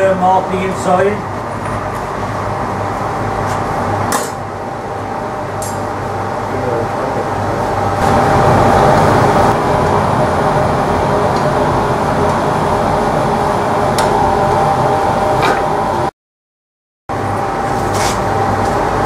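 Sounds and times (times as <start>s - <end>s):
furnace and fans roaring: 0.0s - 16.1s, 17.1s - 19.0s.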